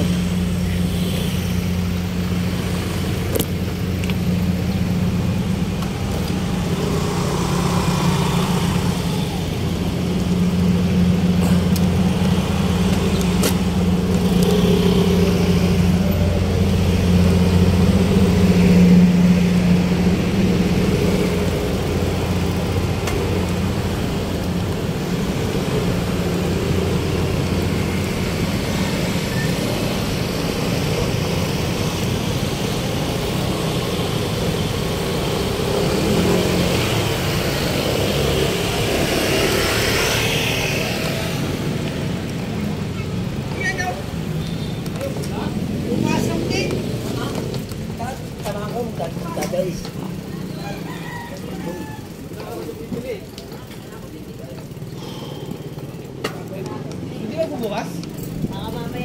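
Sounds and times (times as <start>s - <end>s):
engine humming steadily: 0.0s - 59.0s.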